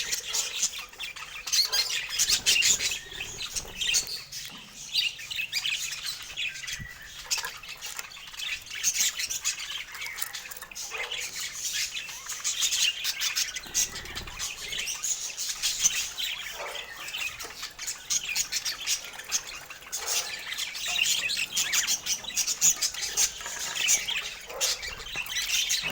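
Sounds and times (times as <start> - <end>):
budgerigars chattering and chirping: 0.0 - 25.9.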